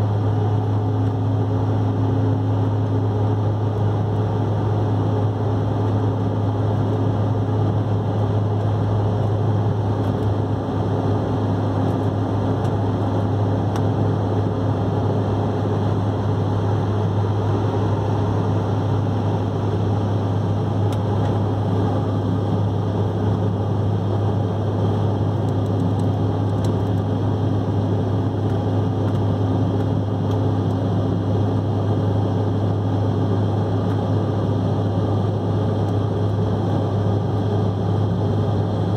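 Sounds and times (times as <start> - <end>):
airliner engine drone: 0.0 - 38.9.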